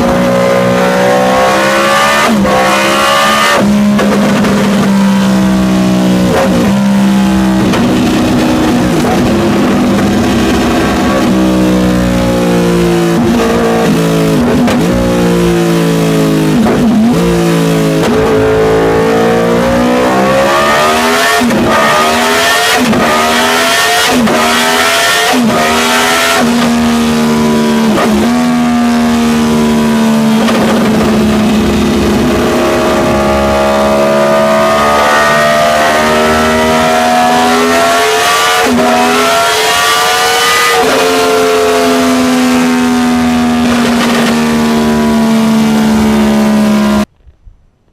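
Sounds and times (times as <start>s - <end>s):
motorcycle engine at high revs: 0.0s - 47.1s.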